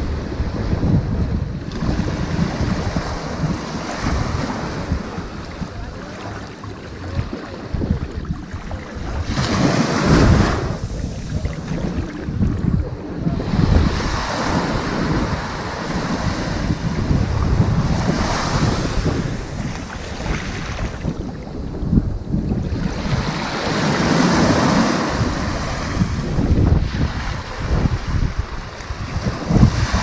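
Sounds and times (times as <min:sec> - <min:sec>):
ocean waves washing on sand: 0:00.0 - 0:30.0.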